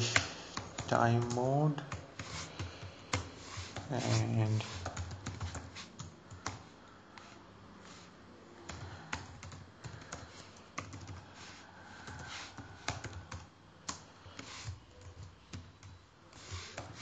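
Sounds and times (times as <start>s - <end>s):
keyboard typing: 0.0s - 6.7s, 8.6s - 11.3s, 12.0s - 17.0s.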